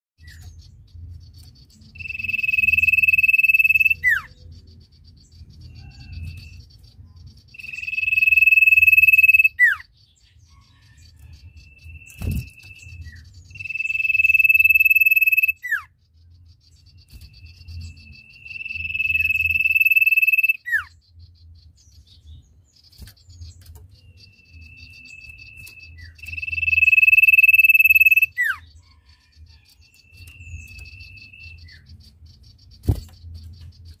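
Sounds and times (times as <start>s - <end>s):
bird whistling song: 0.2s - 34.0s.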